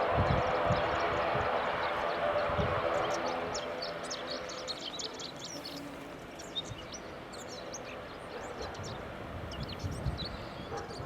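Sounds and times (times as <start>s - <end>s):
birds chirping: 0.3s - 11.0s.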